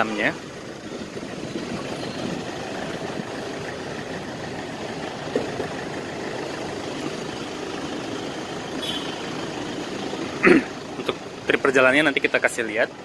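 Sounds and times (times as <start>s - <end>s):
engine and traffic hum: 0.0s - 13.0s.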